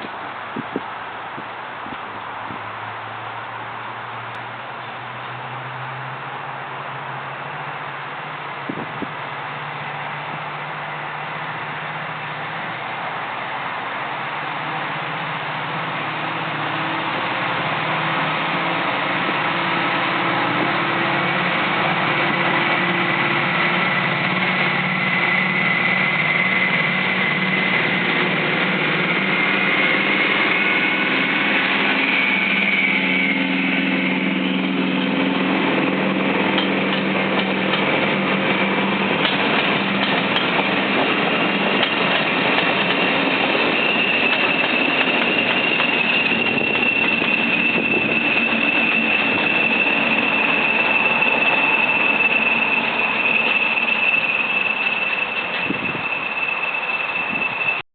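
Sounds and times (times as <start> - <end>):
diesel locomotive engines running: 0.0 - 57.8
train wheels on rails: 0.0 - 57.8.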